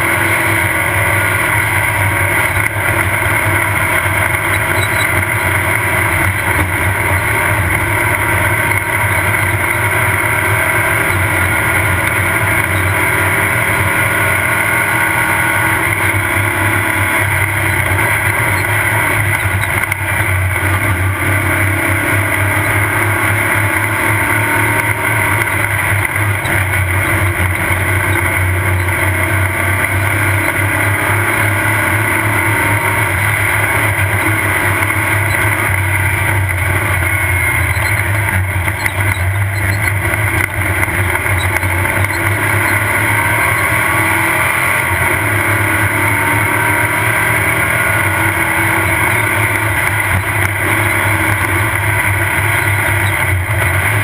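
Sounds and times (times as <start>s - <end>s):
race vehicle engine running hard: 0.0s - 54.0s.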